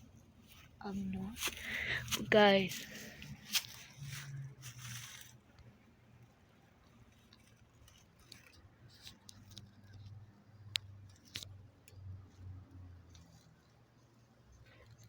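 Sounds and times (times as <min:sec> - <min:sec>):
faint clicks and crackles: 0:00.0 - 0:15.0.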